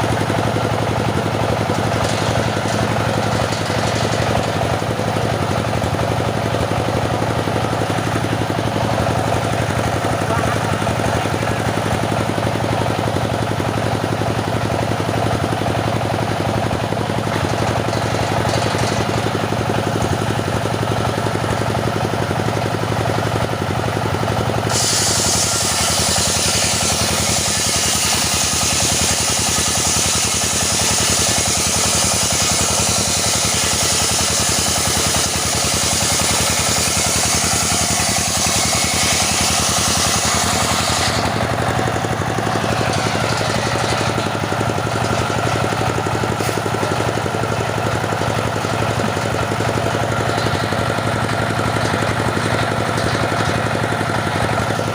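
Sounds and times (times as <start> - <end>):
saw blade cutting wood: 0.0 - 22.2, 24.4 - 54.9
circular saw engine running: 0.0 - 54.9.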